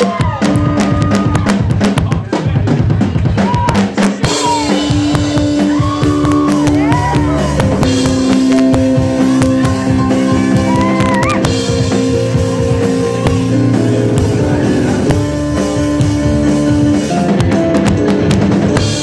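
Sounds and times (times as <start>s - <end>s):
band with pianos and guitar: 0.0s - 19.0s
drum hits: 0.0s - 19.0s.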